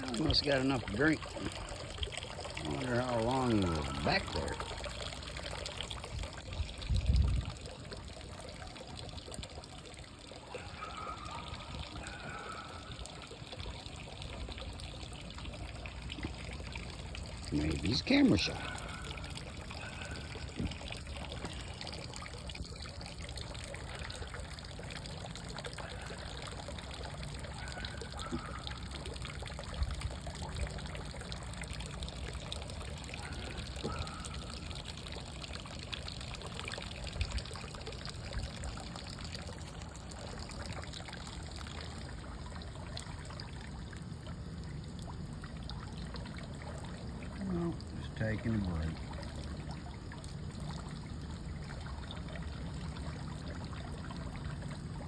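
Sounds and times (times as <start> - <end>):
water pouring and trickling: 0.0 - 55.0.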